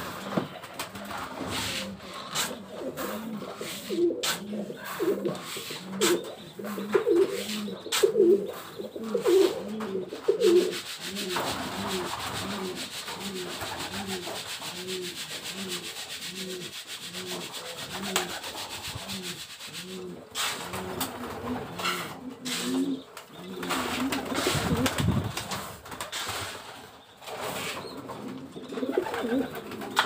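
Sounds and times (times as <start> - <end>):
rasping scraping noise: 0.0 - 23.0, 23.6 - 27.9
pigeons cooing: 0.0 - 30.0.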